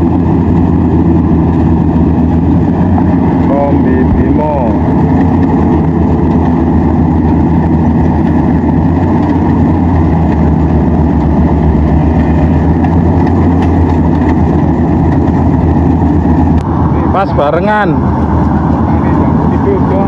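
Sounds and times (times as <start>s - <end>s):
combine harvester engine humming: 0.0s - 20.0s.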